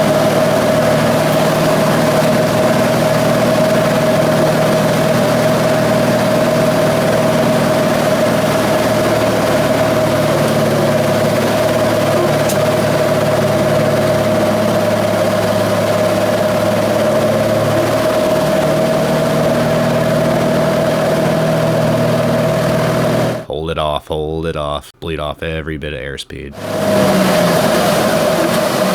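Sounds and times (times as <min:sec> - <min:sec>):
airplane engine and propeller drone: 0:00.0 - 0:23.4, 0:26.6 - 0:28.9.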